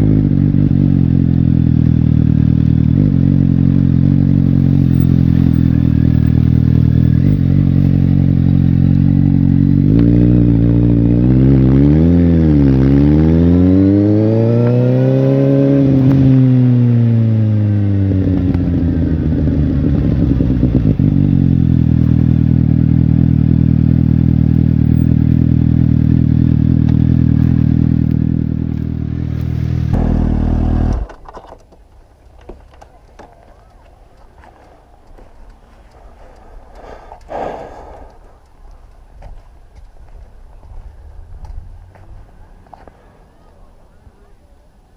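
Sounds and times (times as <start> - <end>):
motorcycle engine idling and revving: 0.0 - 37.4, 38.0 - 44.9.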